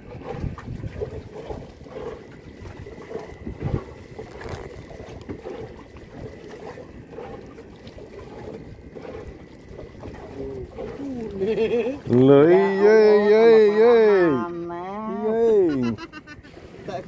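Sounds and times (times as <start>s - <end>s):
wind on microphone: 0.0s - 14.3s
water washing around boat: 0.0s - 17.0s.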